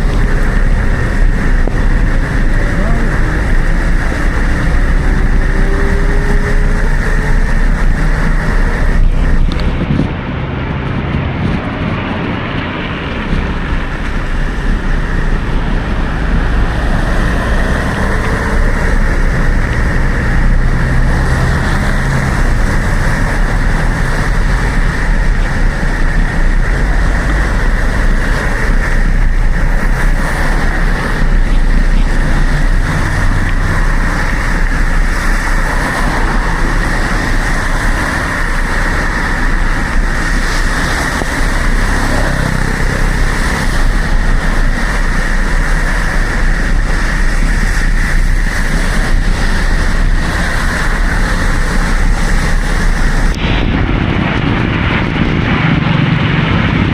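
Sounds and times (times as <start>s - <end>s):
traffic and road noise: 0.0s - 56.9s
wind on microphone: 0.0s - 56.9s.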